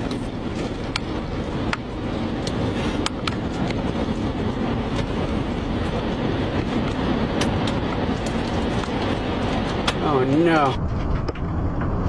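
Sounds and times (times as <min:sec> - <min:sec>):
tornado wind rumbling: 0:00.0 - 0:12.0.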